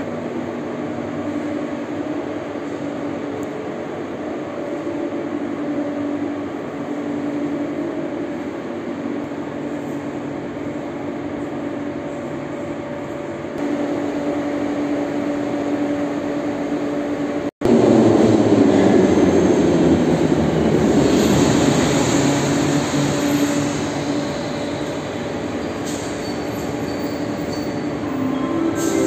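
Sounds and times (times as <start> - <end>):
loud rumble of wheels and rails: 0.0 - 29.0
metro train hum: 0.0 - 29.0.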